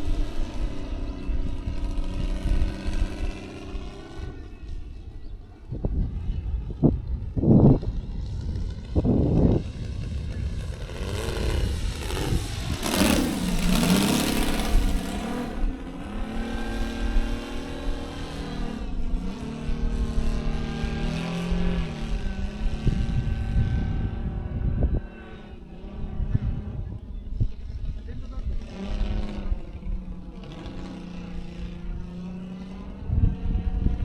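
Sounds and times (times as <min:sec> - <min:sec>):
model airplane engine running: 0:00.0 - 0:34.0
wind rumble on microphone: 0:00.0 - 0:34.0.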